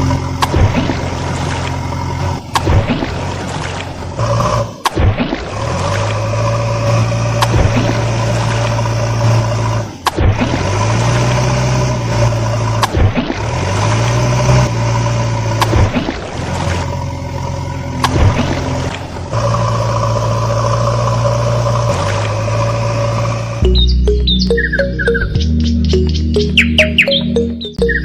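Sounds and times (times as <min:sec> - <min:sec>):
vehicle engine revving: 0:00.0 - 0:24.6.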